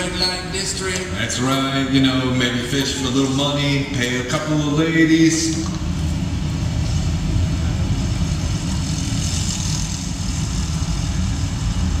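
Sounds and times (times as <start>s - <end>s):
traffic ambience over loudspeakers: 0.0s - 12.0s.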